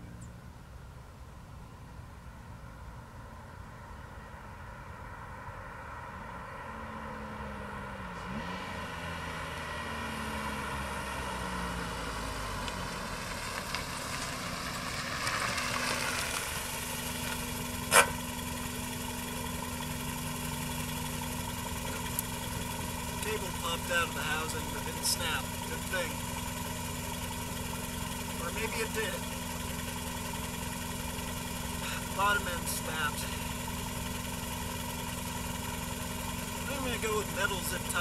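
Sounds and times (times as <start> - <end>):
car exhaust note: 6.1 - 38.0.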